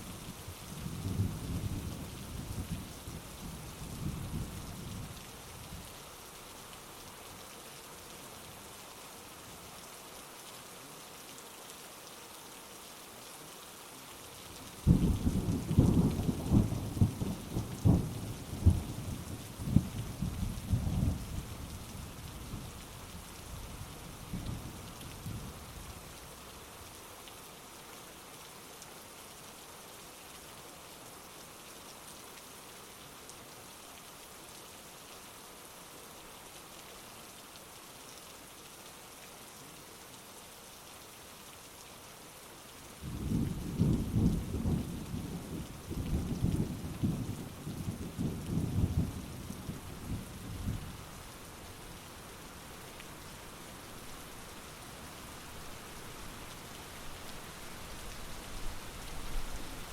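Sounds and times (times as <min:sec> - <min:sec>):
heavy rain falling: 0:00.1 - 0:07.4, 0:08.0 - 0:29.2, 0:35.0 - 0:59.9.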